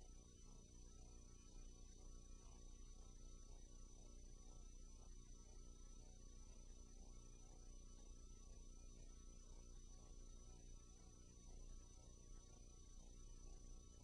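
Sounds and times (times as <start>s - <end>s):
faint hum and hiss: 0.0s - 14.0s.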